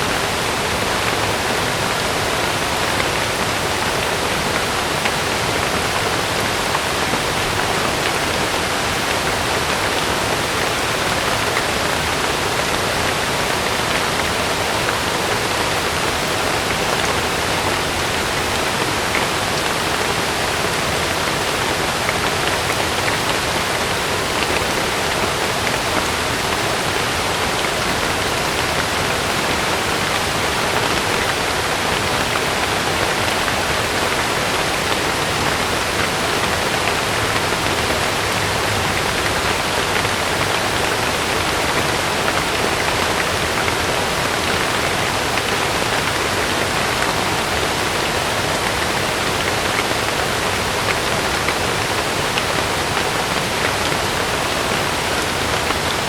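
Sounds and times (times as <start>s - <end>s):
heavy rain on a tent: 0.0s - 56.0s.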